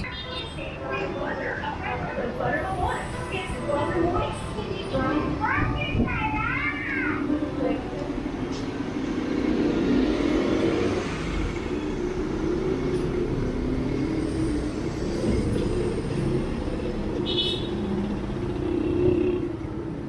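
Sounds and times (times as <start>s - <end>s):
vehicle engines running: 0.0s - 20.0s.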